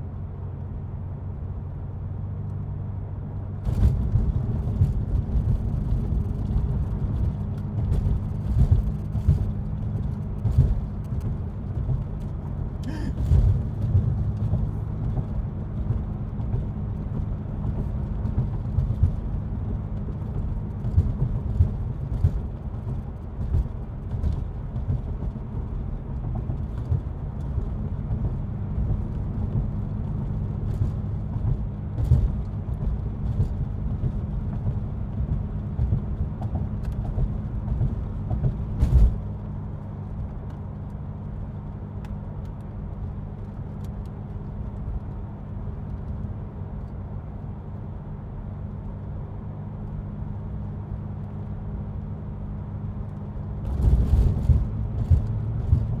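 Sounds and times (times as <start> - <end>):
car engine from inside cabin: 0.0 - 56.0
tyre and road noise: 0.0 - 56.0.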